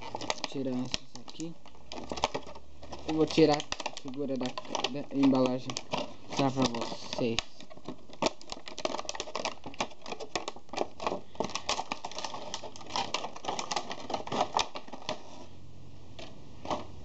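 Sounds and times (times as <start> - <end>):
plastic packaging crackling: 0.0 - 15.5, 16.2 - 17.0.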